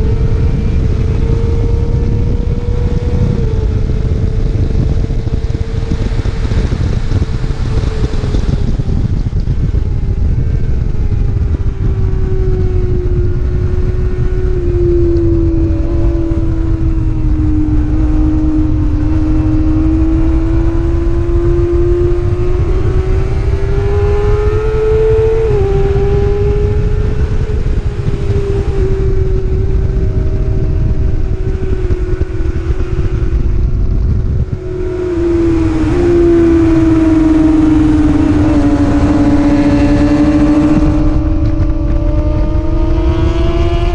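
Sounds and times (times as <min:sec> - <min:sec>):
motorcycle engine at speed: 0:00.0 - 0:43.9
wind noise on microphone: 0:00.0 - 0:43.9.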